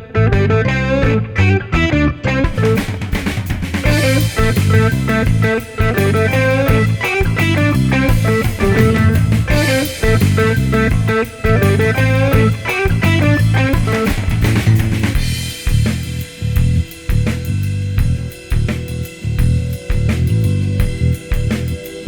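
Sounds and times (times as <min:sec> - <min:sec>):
guitar-led rock music: 0:00.0 - 0:22.0
drum kit: 0:00.4 - 0:22.0.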